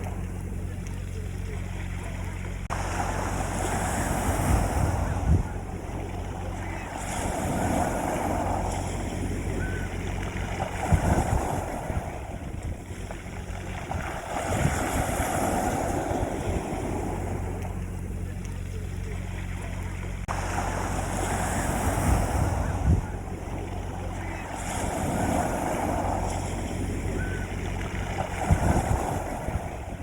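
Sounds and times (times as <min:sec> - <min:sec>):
low hum: 0:00.0 - 0:30.0
waves breaking on a beach: 0:00.0 - 0:30.0
wind buffeting microphone: 0:00.0 - 0:30.0.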